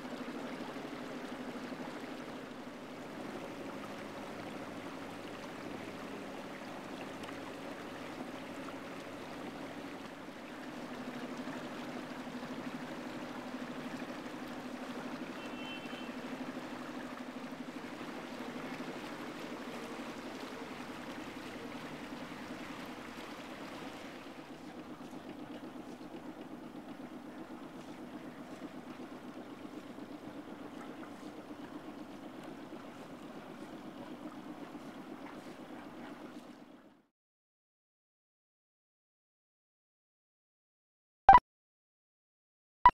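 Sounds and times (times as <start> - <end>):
boat engine humming: 0.0 - 37.1
water rushing along hull: 0.0 - 37.1.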